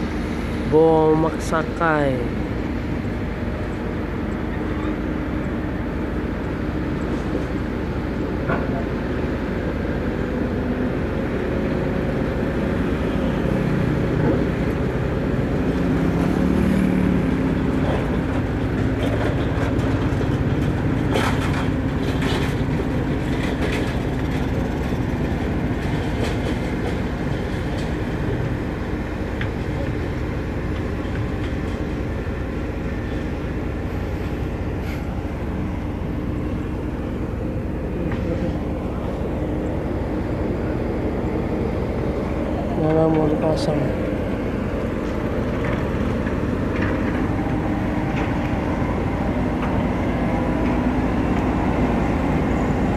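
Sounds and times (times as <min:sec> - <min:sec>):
road roller diesel engine: 0:00.0 - 0:52.9.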